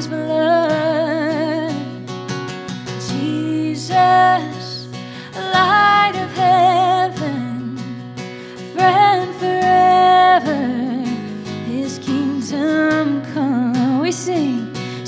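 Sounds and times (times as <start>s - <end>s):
woman singing with vibrato: 0.0s - 2.0s, 3.0s - 15.0s
acoustic guitar: 0.0s - 15.0s.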